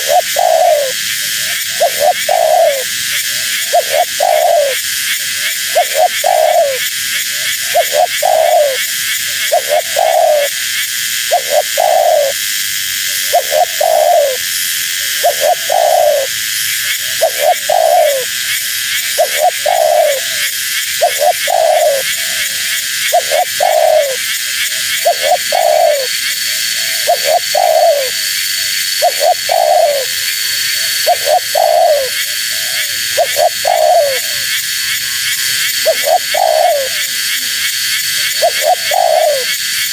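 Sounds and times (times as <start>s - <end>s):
dove cooing: 0.0s - 39.9s
steady high hiss: 0.0s - 39.9s.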